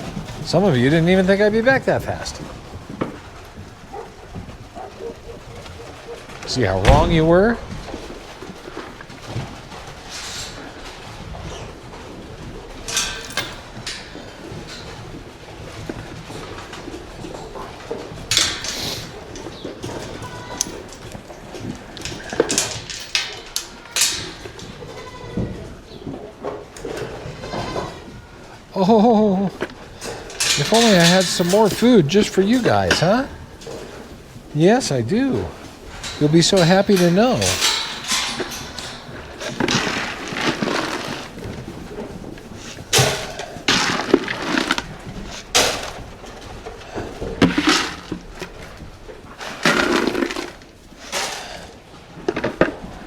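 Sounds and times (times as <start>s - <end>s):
animals rustling in a barn: 0.0s - 53.0s
hooves on barn floor: 0.0s - 53.0s.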